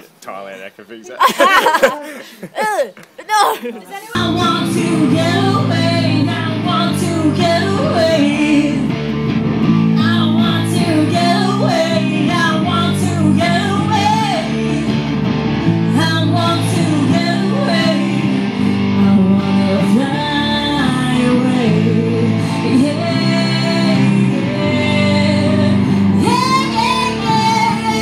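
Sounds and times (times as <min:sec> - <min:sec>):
woman singing: 0:02.0 - 0:09.0, 0:09.9 - 0:14.9, 0:15.9 - 0:28.0
electric guitar: 0:04.1 - 0:28.0
bass guitar: 0:04.2 - 0:28.0
drums: 0:04.2 - 0:28.0.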